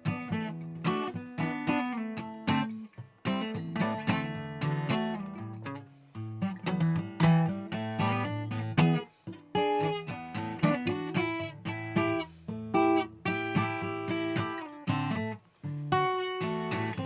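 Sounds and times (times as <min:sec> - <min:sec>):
solo blues guitar: 0:00.0 - 0:17.0.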